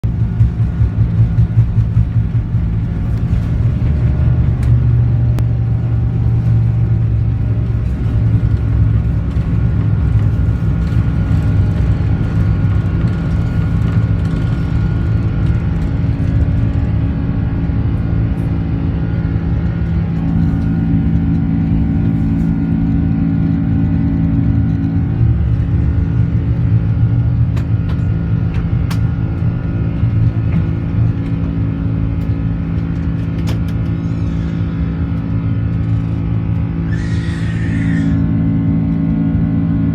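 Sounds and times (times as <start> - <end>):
jet engines rumbling: 0.0 - 39.9
jet engine whining tones: 0.1 - 39.9.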